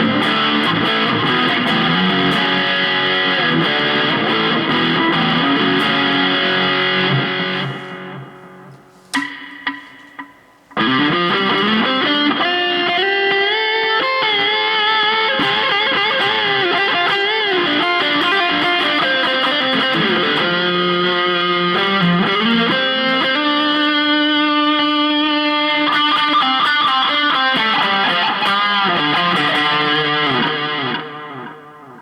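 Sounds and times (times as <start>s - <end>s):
electric guitar lead line: 0.0s - 32.0s.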